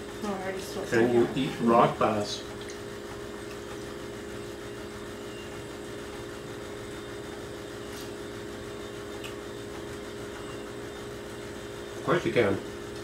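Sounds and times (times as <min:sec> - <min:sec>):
room hum and whir: 0:00.0 - 0:13.0.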